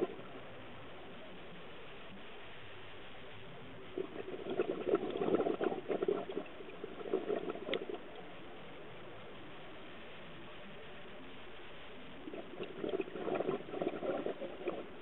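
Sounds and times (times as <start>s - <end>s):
underwater bubbling: 0.0s - 0.6s, 3.6s - 15.0s.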